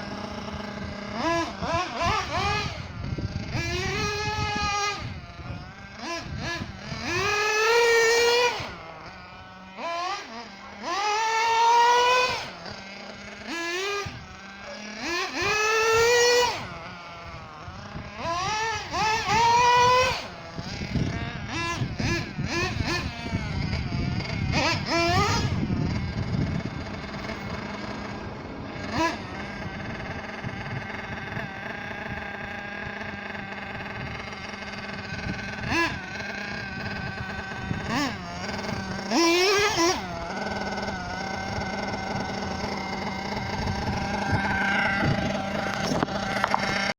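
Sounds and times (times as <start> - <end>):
model buggy engine revving: 0.0 - 46.9.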